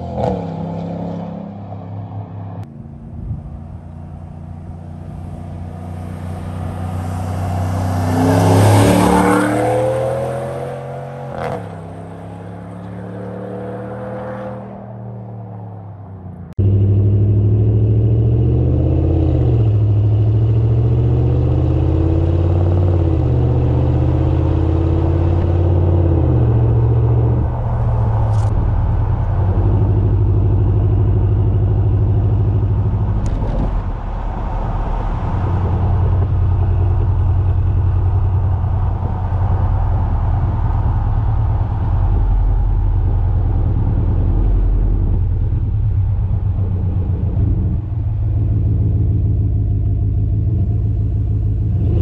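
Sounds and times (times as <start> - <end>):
engine exhaust rumble: 2.5 - 13.7, 14.9 - 52.0.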